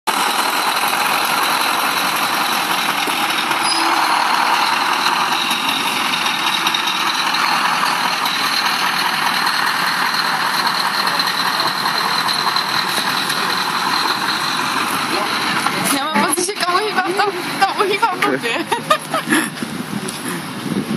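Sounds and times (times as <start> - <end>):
heavy truck engine running: 0.1 - 20.9.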